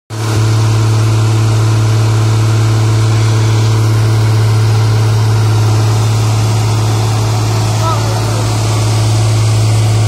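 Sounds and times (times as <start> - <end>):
diesel engine deep hum: 0.1 - 10.0.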